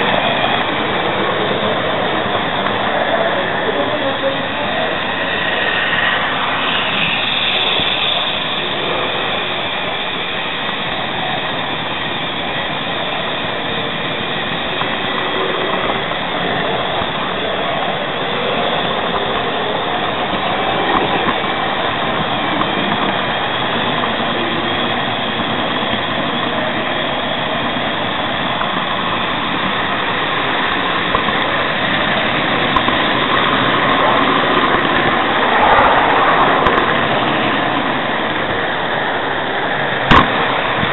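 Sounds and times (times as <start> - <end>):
model train whirring rumble: 0.0 - 40.9.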